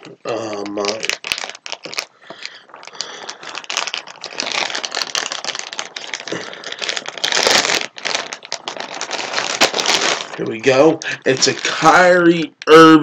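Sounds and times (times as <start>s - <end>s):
packaging crinkling and tearing: 0.0s - 12.7s.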